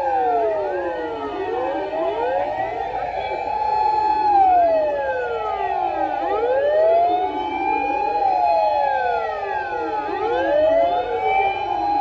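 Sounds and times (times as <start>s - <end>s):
fire engine sirens wailing: 0.0s - 12.0s.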